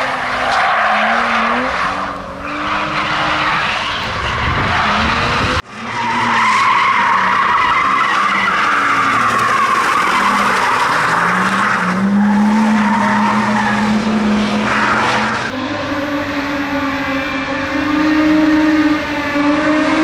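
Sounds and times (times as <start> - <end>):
tyres squealing: 0.0 - 19.3
car engine at high revs: 0.0 - 20.0.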